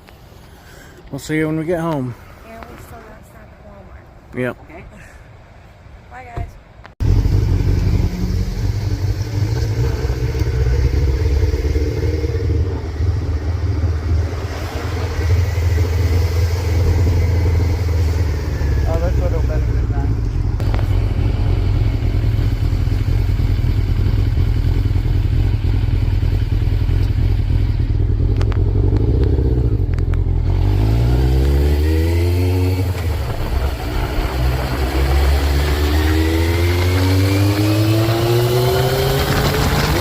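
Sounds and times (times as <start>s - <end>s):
motorcycle engine accelerating: 7.0s - 40.0s.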